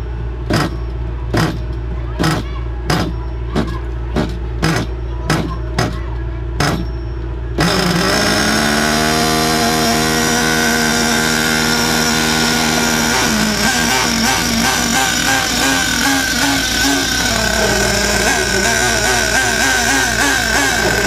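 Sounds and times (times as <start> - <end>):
loud steady held tones: 2.9 - 21.0.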